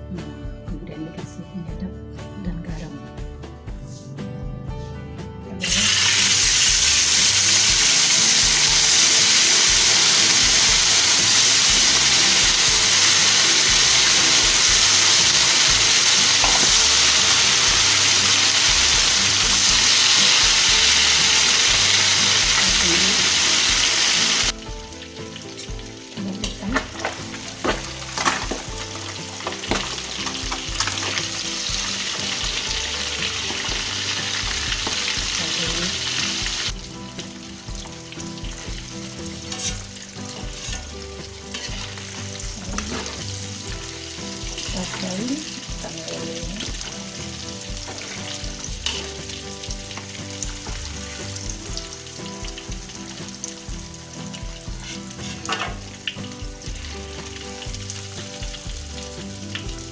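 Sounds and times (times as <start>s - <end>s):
fish sizzling in hot oil: 5.6s - 59.9s.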